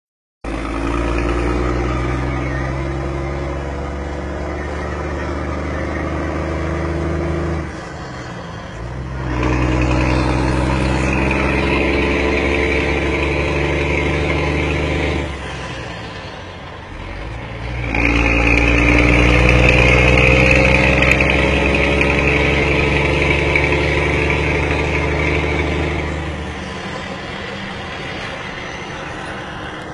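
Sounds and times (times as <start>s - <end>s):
truck diesel engine rumbling: 0.4s - 29.9s.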